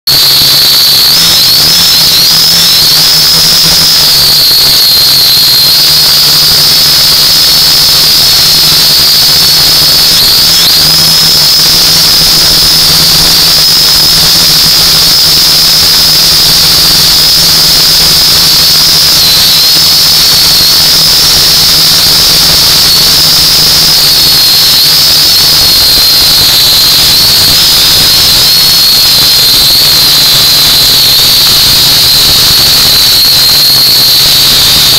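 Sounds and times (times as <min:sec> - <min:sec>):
drone propellers whining: 0:00.2 - 0:34.9.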